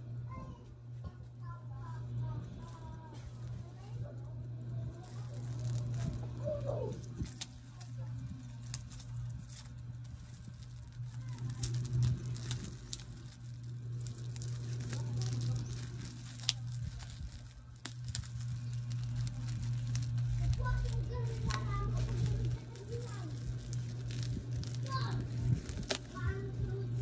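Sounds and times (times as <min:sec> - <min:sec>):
steady low hum: 0:00.0 - 0:27.0
plastic film crinkling: 0:00.3 - 0:27.0
scissors snipping plastic wrap: 0:04.9 - 0:27.0.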